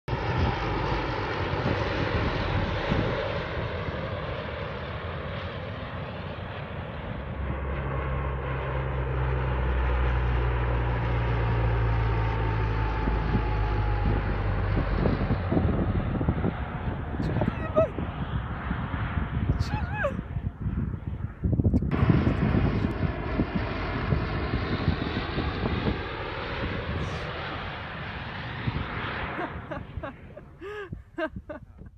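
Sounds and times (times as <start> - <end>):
plane engines droning overhead: 0.1 - 31.9.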